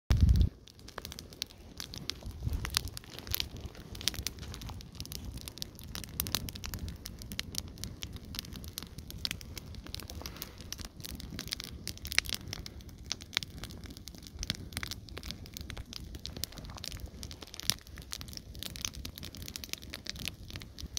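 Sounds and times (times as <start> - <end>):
fire crackling and popping: 0.1 - 20.9
low rushing fire noise: 0.1 - 20.9.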